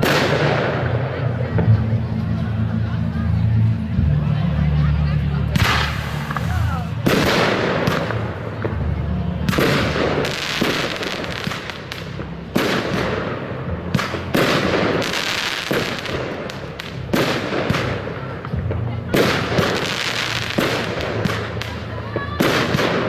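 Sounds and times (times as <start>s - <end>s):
fireworks bursting with echo: 0.0s - 2.7s, 5.4s - 23.0s.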